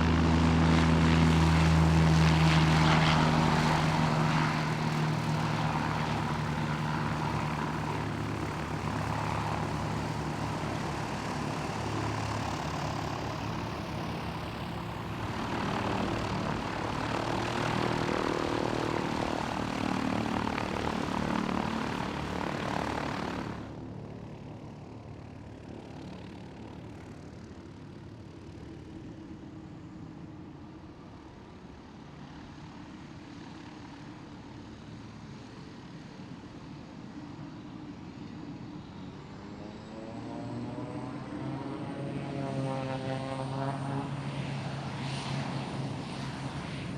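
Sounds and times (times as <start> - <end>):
propeller aircraft engine droning: 0.0 - 46.9.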